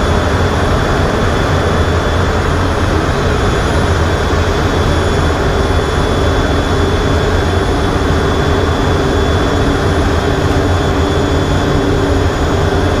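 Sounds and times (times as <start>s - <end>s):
high engine whine: 0.0s - 13.0s
jet engine rumble: 0.0s - 13.0s.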